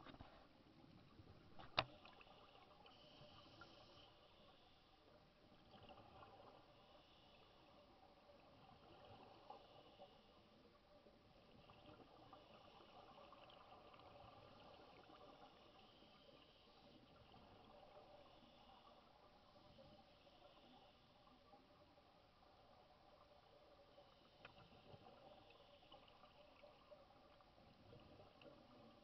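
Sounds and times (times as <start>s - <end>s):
faint underwater hiss: 0.0s - 29.0s.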